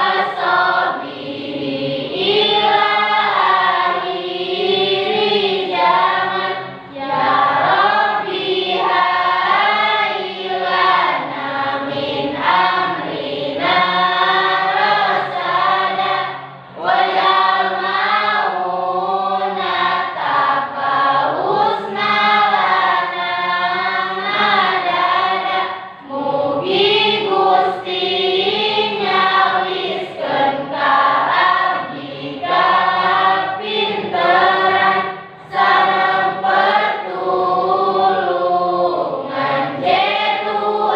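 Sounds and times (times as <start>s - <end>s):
students singing in chorus: 0.0s - 40.9s.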